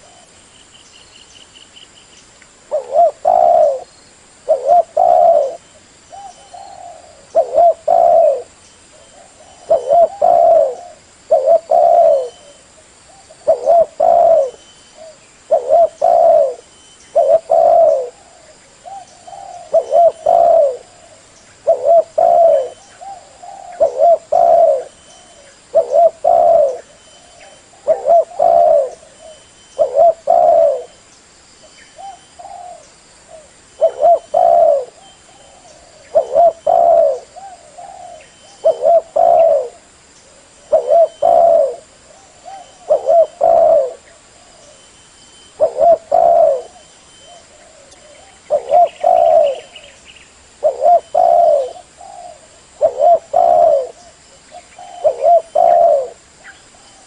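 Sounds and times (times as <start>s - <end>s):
dove cooing: 0.0s - 0.4s, 2.7s - 31.0s, 32.0s - 50.0s, 50.6s - 57.0s.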